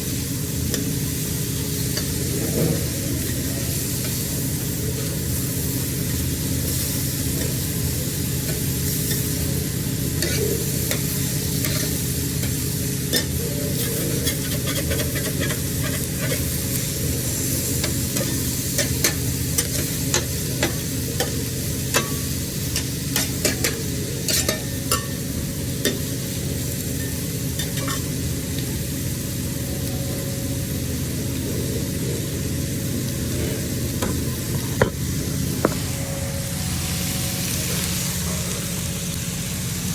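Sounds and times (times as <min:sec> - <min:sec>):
seafood sizzling on a grill: 0:00.0 - 0:39.9.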